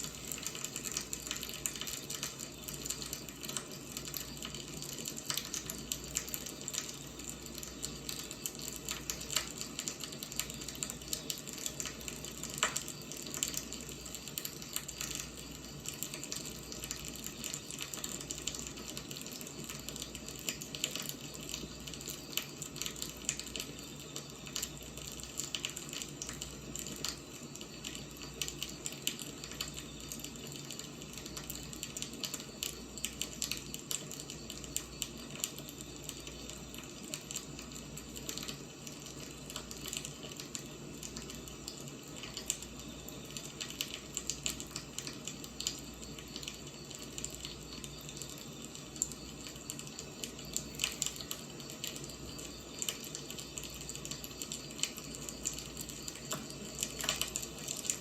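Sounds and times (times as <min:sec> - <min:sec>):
burning logs crackling and popping: 0:00.0 - 0:58.0
wood fire hissing: 0:00.0 - 0:58.0.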